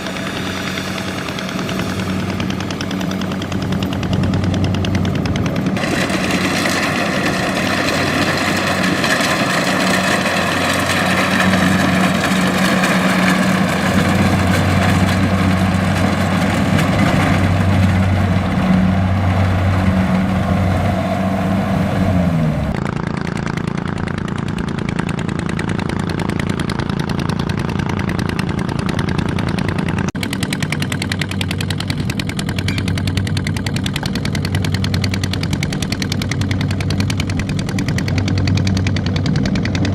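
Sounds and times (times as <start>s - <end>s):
harvester engine whining hum: 0.0s - 39.9s.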